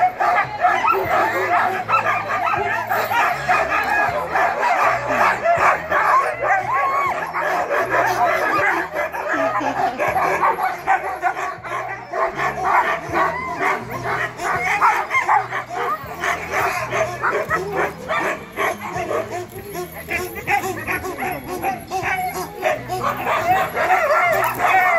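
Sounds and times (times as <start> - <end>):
sled dogs barking and whining: 0.0 - 24.9.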